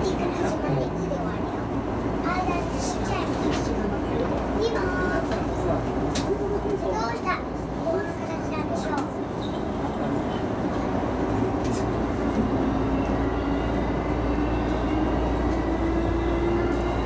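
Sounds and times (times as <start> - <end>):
train wheel and running noise: 0.0 - 17.0.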